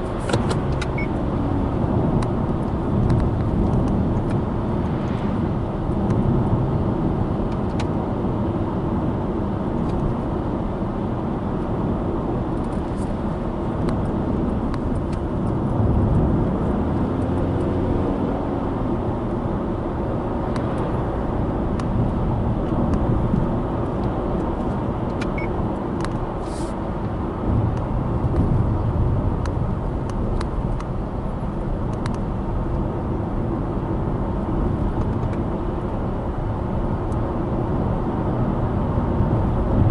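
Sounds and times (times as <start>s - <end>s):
car driving rumble: 0.0s - 39.9s
tyres on road: 0.0s - 39.9s.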